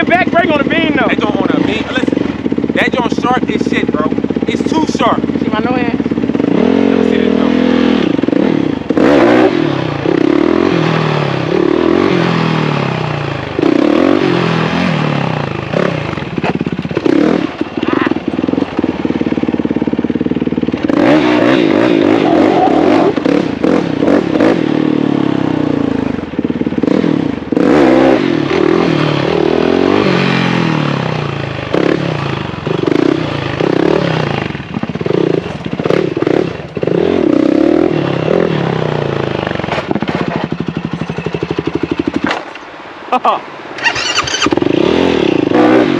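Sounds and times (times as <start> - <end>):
motorcycle engine revving: 0.0 - 42.9, 43.7 - 45.9.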